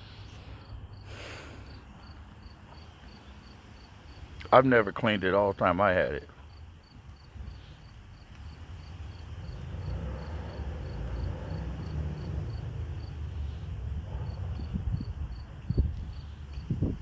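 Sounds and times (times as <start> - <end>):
crickets chirping: 0.0 - 5.5, 6.3 - 17.0.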